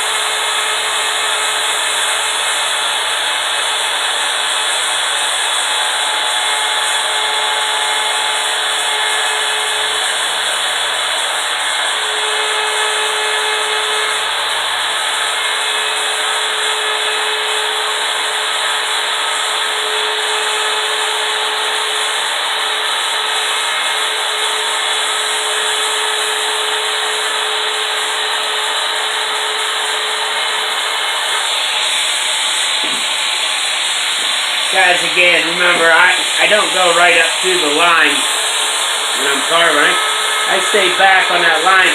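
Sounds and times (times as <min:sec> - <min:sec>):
router carving wood: 0:00.0 - 0:41.9.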